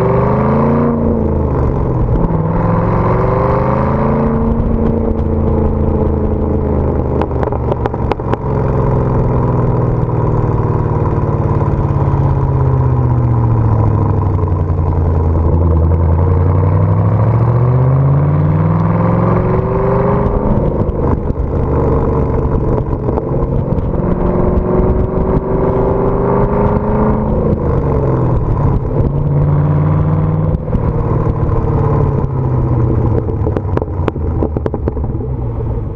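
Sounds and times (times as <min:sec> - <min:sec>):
loud car exhaust revving: 0:00.0 - 0:35.2.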